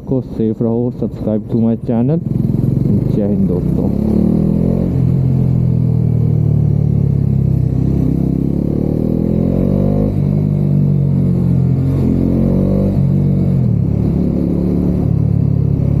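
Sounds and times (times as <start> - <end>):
motorcycle engine under throttle: 1.2 - 16.0.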